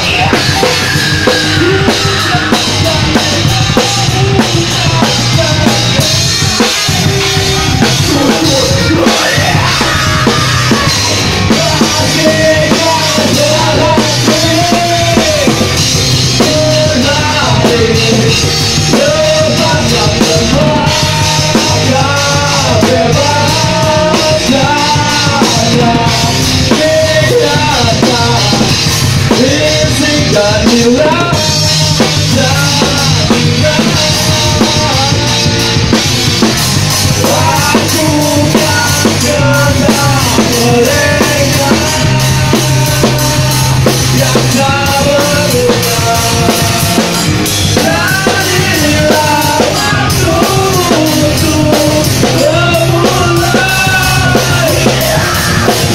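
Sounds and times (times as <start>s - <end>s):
drum kit hits: 0.0s - 55.9s
person singing: 0.0s - 55.9s
punk rock band playing: 0.0s - 55.9s.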